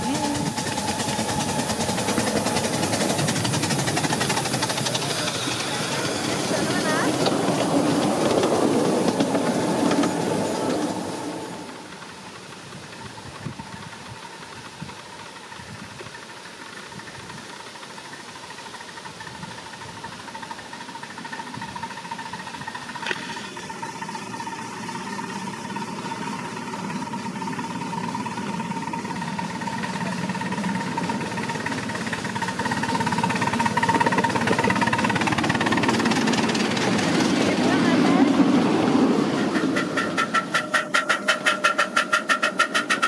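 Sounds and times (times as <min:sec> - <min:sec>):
miniature steam locomotive passing: 0:00.0 - 0:43.0.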